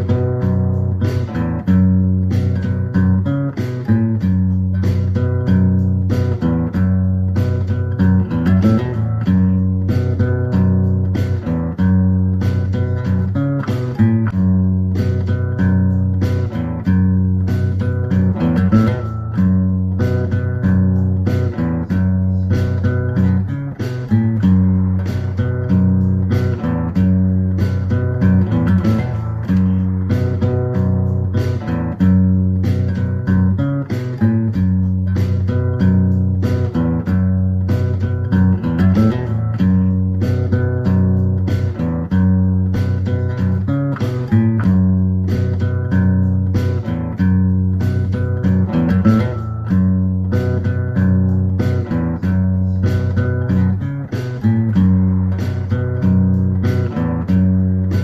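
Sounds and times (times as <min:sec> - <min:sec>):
background guitar music with bass and beat: 0:00.0 - 0:58.0.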